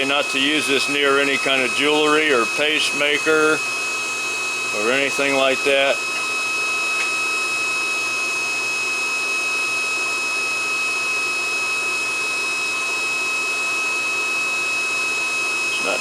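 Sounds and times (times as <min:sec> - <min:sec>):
cooling fan rushing: 0:00.0 - 0:16.0
high-pitched heater whine: 0:00.0 - 0:16.0.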